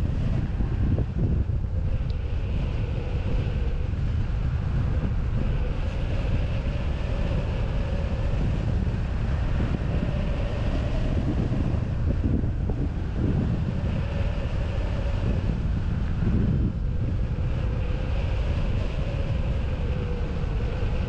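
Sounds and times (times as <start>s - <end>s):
faint steady whine: 0.0s - 21.0s
wind buffeting microphone: 0.0s - 21.0s.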